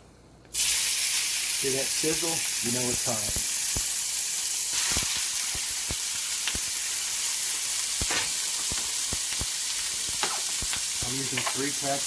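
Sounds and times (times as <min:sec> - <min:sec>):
oil sizzling in a skillet: 0:00.5 - 0:12.0.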